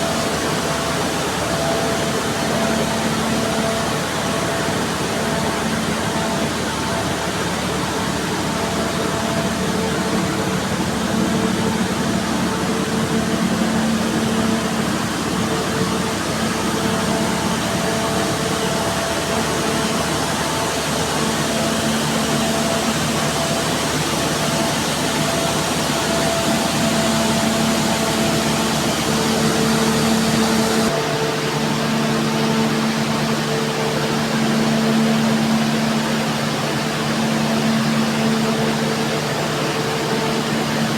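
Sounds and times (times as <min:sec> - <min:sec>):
constant machine hum: 0:00.0 - 0:40.9.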